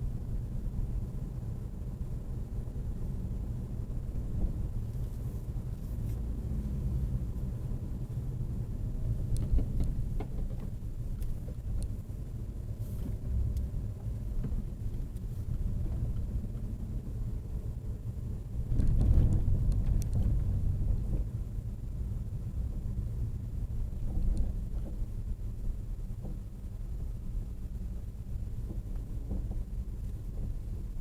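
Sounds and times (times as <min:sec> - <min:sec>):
car engines and traffic rumble: 0:00.0 - 0:31.0.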